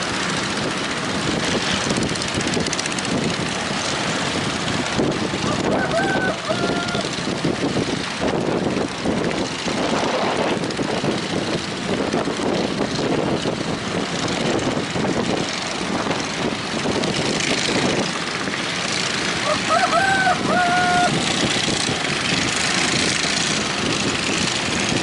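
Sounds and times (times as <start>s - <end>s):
sea waves breaking: 0.0s - 25.0s
strong wind: 0.0s - 25.0s.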